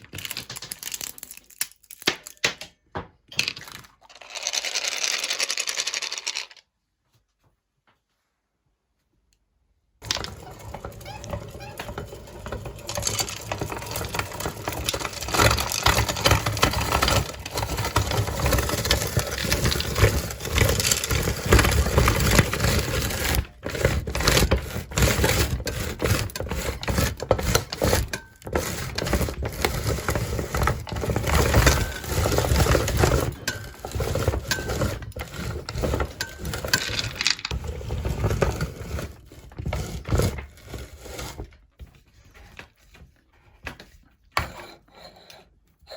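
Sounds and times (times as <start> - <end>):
meat grinder crushing candy: 0.0 - 2.7, 3.3 - 6.6, 10.0 - 41.6.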